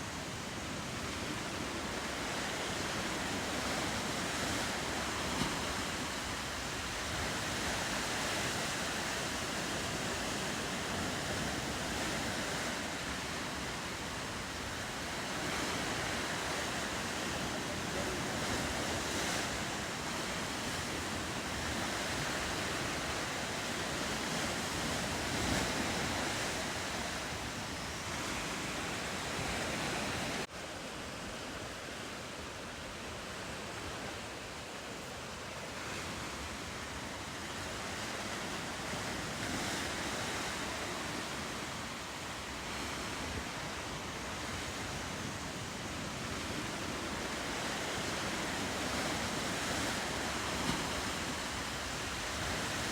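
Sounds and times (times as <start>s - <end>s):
ocean surf: 0.0s - 52.9s
wind: 0.0s - 52.9s.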